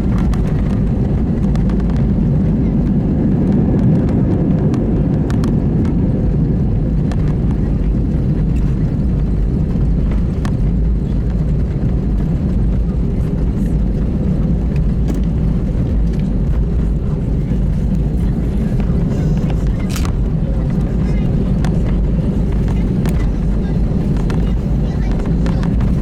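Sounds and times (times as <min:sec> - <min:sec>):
airplane cabin engine rumble: 0:00.0 - 0:26.0
faint rattles: 0:03.4 - 0:26.0.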